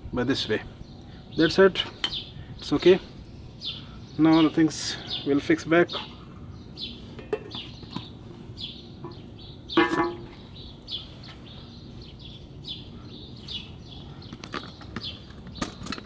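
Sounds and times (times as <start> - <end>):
small bird chirping: 0.8 - 15.8.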